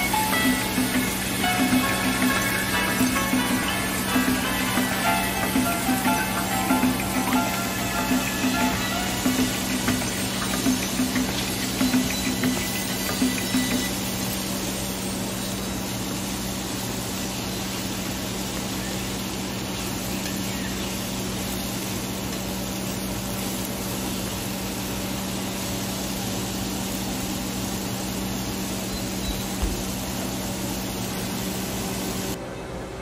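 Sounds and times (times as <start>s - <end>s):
mushrooms sizzling in pan: 0.0s - 32.4s.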